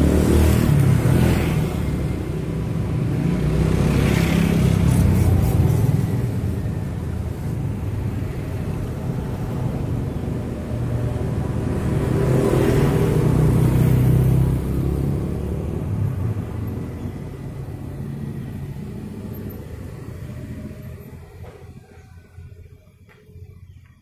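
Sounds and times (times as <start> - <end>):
car passing: 0.0 - 23.6
motorcycles passing: 0.0 - 23.8.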